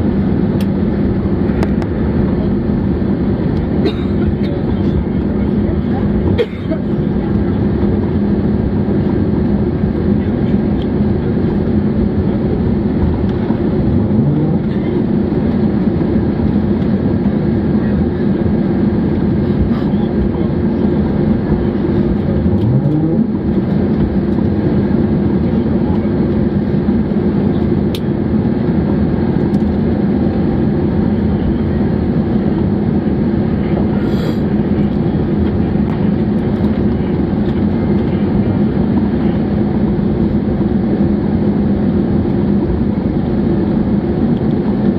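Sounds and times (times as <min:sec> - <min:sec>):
airplane cabin engine noise: 0:00.0 - 0:44.9.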